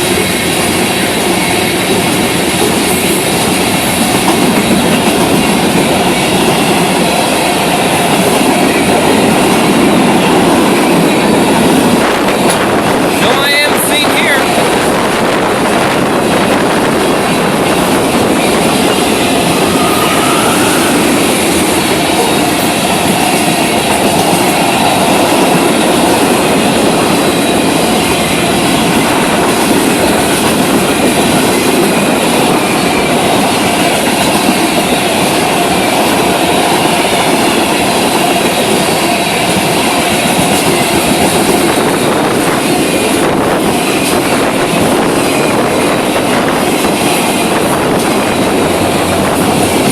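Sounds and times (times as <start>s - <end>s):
freight train wheels rumbling on rails: 0.0s - 49.9s.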